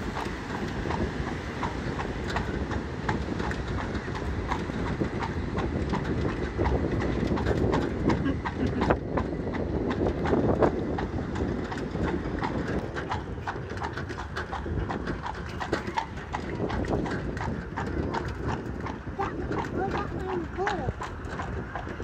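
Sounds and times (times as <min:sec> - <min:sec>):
cart wheels rolling: 0:00.0 - 0:22.0
horse hooves clopping on road: 0:00.0 - 0:22.0.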